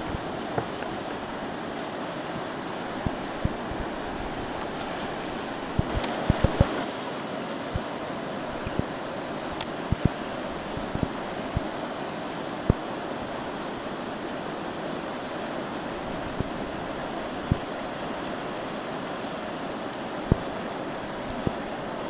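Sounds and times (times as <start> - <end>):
whitewater rapid rushing: 0.0 - 22.0.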